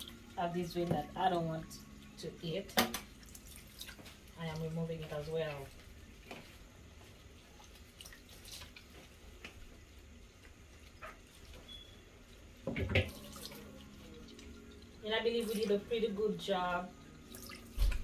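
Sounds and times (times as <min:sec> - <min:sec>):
faint drips: 0:00.0 - 0:18.0.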